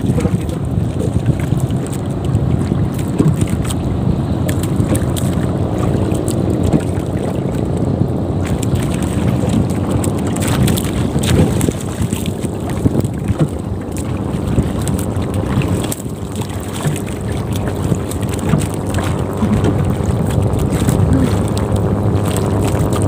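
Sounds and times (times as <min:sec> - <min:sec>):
water lapping against boat: 0:00.0 - 0:23.0
wind buffeting microphone: 0:00.0 - 0:23.0.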